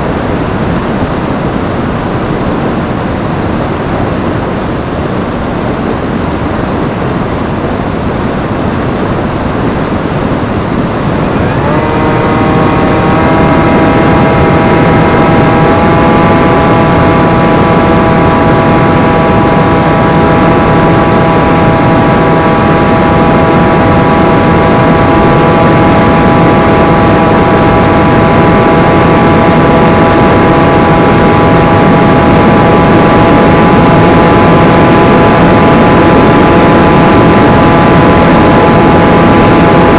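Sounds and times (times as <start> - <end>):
electric motor and propeller whine: 0.0 - 39.9
wind rushing over microphone: 0.0 - 39.9.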